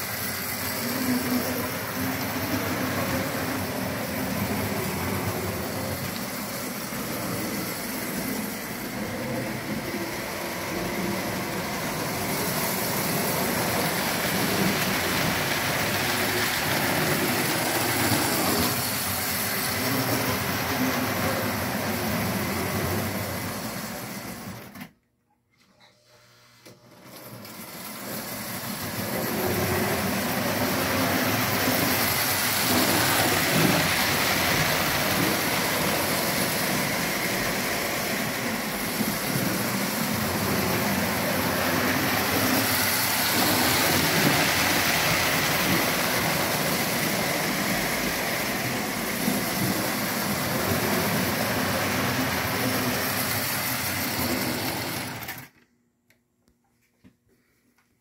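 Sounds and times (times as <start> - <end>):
wheels rumbling on rails: 0.0 - 24.5, 27.9 - 55.4
model train motor whirring: 0.0 - 24.9, 27.0 - 55.6.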